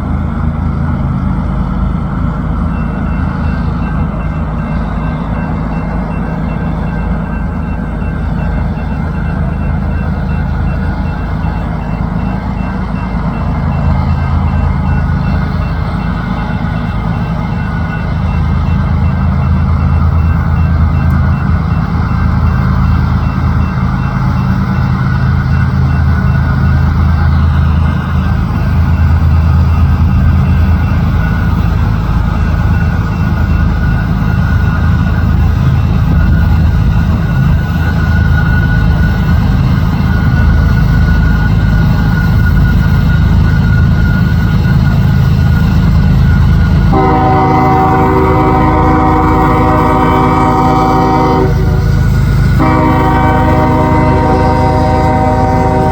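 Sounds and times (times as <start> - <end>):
diesel locomotives running: 0.0 - 55.9.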